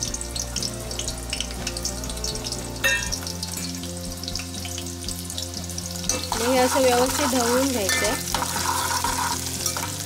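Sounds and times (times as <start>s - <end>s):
onion sizzling in hot oil: 0.0s - 10.0s.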